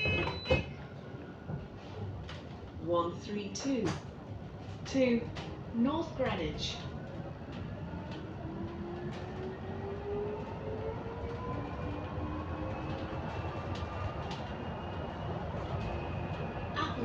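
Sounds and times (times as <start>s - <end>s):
bus drivetrain whine: 0.0s - 3.0s, 3.6s - 17.0s.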